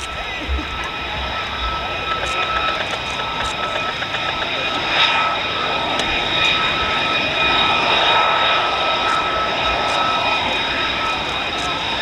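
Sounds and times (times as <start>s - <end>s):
jet engine whine: 0.0s - 12.0s.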